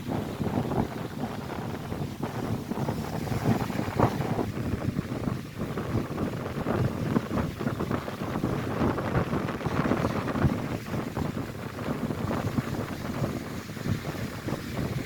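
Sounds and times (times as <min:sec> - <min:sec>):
lake waves breaking on shore: 0:00.0 - 0:15.0
wind buffeting microphone: 0:00.0 - 0:15.0.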